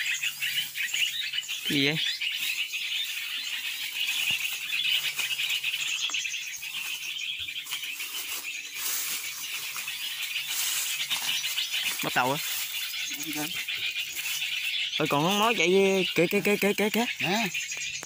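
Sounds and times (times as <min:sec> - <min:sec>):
dry leaves rustling and crackling: 0:00.0 - 0:18.0.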